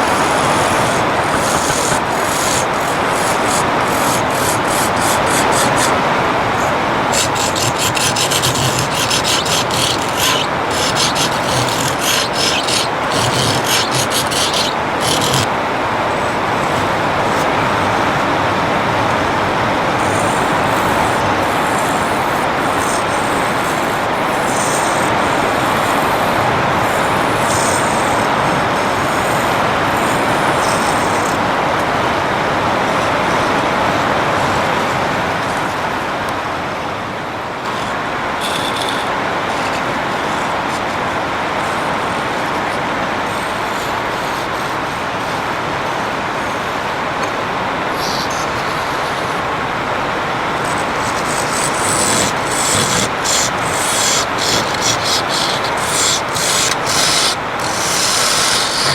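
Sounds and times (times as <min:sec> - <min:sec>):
wood lathe running: 0:00.0 - 0:36.4, 0:37.5 - 0:58.9.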